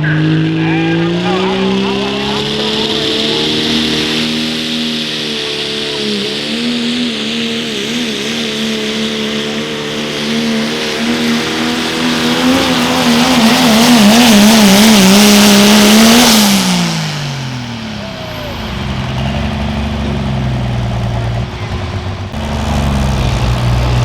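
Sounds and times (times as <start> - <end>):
diesel truck engine at full throttle: 0.0 - 24.0.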